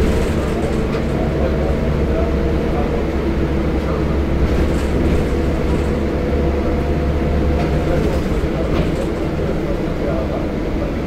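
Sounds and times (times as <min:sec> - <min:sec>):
bus body rattles: 0:00.0 - 0:11.0
bus engine hum: 0:00.0 - 0:11.0.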